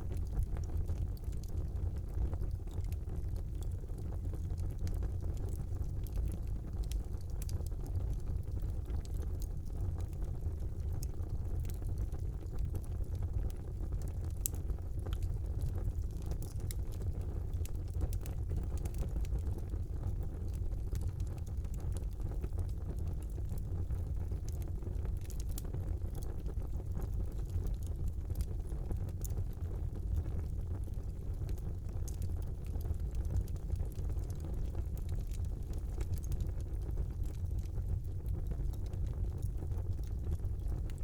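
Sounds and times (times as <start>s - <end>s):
fireplace fire burning: 0.0s - 41.0s.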